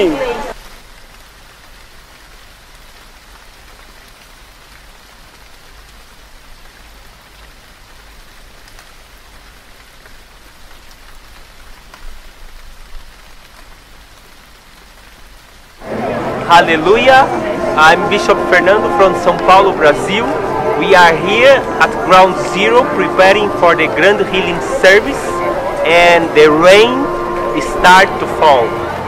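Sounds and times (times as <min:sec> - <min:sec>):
raindrops ticking on surfaces: 0:00.0 - 0:29.0
steady rain hiss: 0:00.0 - 0:29.0.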